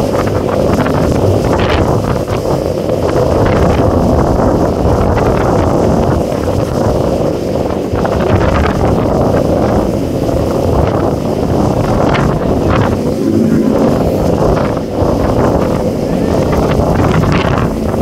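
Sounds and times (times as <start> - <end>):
churning sea water: 0.0 - 18.0
wind buffeting microphone: 0.0 - 18.0.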